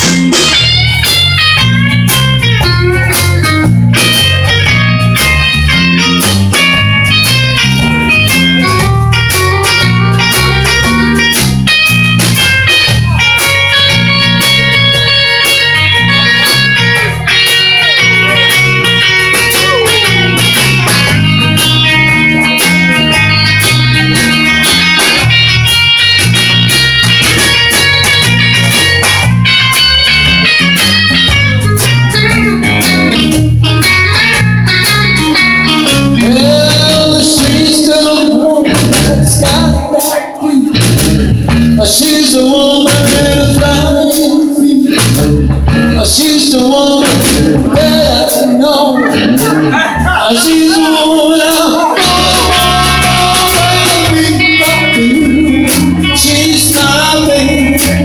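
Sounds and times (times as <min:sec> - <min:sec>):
bass line: 0:00.0 - 0:58.0
electric guitar lead: 0:00.0 - 0:58.0
steady drums: 0:00.0 - 0:58.0.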